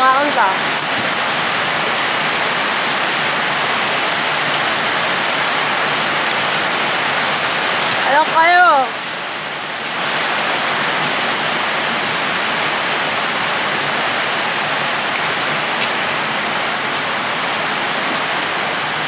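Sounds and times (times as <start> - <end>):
heavy rain on metal roof: 0.0 - 19.0.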